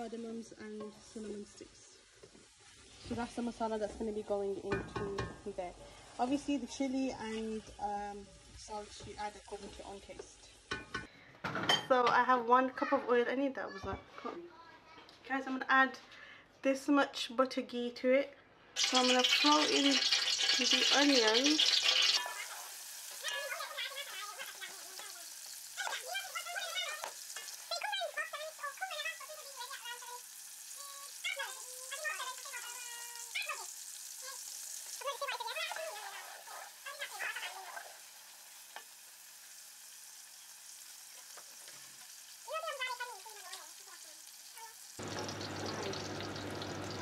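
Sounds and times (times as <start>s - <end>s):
onions sizzling in oil: 0.0s - 11.1s, 18.8s - 47.0s.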